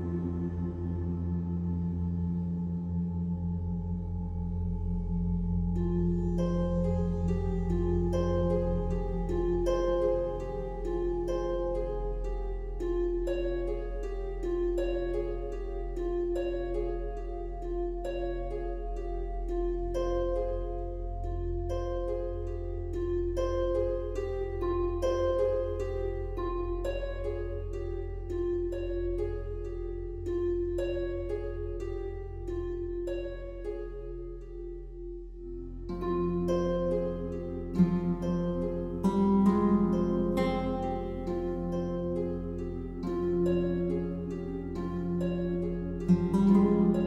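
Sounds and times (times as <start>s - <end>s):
low held bass tone: 0.0s - 47.0s
low hum: 0.0s - 47.0s
plucked notes: 0.0s - 47.0s.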